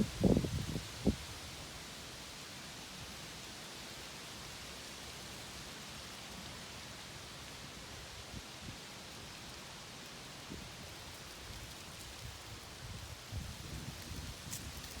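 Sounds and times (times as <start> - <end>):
wind rustling leaves: 0.0 - 15.0.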